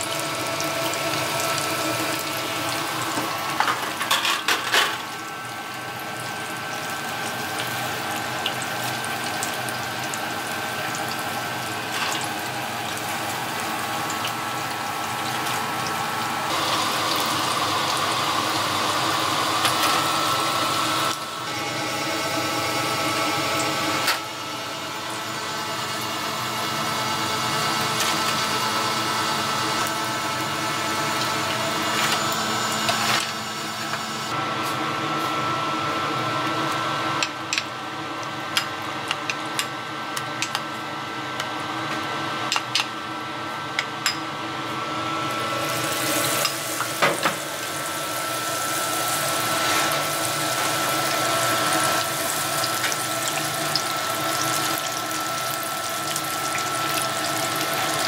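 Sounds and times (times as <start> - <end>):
deep-frying oil sizzling: 0.0 - 34.3, 45.3 - 58.0.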